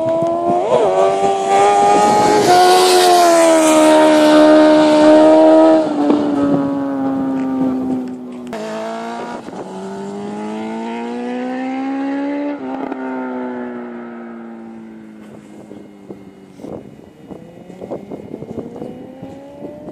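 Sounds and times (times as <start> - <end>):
motorcycle engine revving: 0.0 - 19.9
wind buffeting: 0.0 - 19.9.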